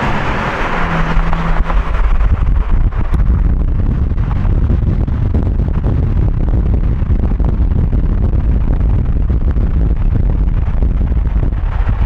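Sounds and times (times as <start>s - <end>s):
road noise: 0.0s - 12.0s
wind rushing over microphone: 0.0s - 12.0s.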